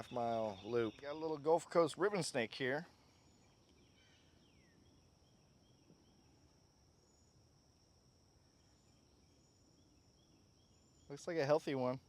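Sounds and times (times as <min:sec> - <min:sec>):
faint chirps: 0:00.0 - 0:12.0.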